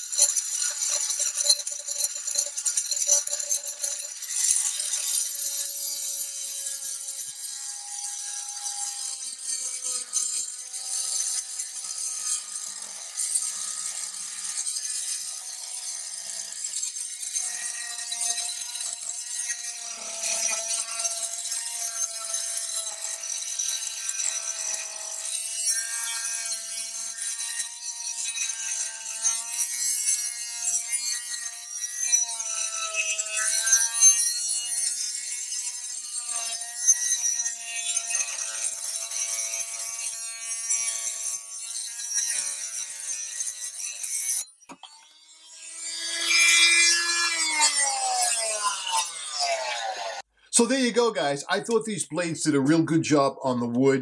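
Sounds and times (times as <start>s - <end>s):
oscillating multi-tool cutting metal rod: 0.0s - 50.3s.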